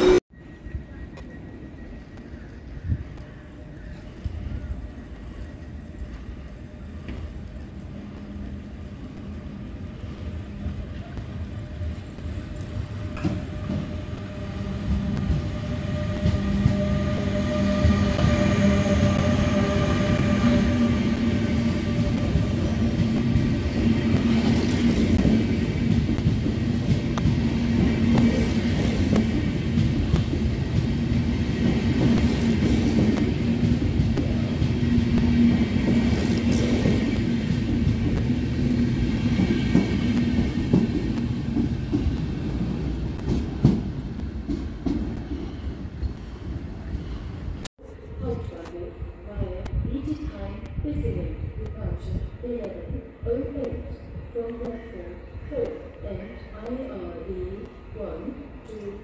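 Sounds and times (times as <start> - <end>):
train wheel rumble: 0.0 - 48.7.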